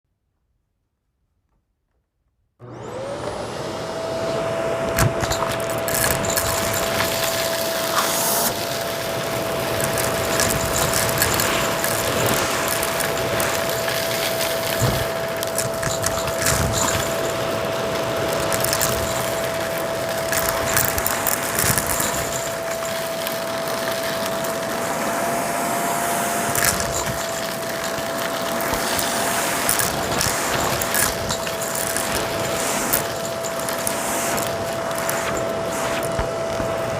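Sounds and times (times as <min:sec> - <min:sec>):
vacuum cleaner whine: 0:02.6 - 0:36.9
debris crackling through hose: 0:04.9 - 0:36.9.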